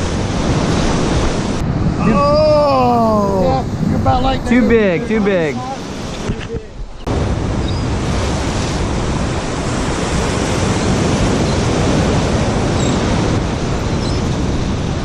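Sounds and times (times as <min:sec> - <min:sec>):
surf washing: 0:00.0 - 0:15.0
wind buffeting microphone: 0:00.0 - 0:15.0.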